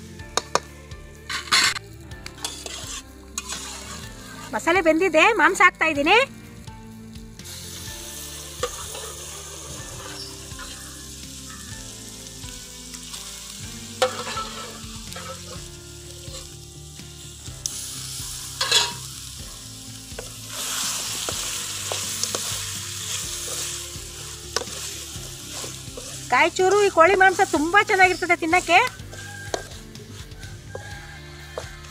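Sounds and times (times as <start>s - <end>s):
chicken sizzling in oil: 0.0s - 31.9s.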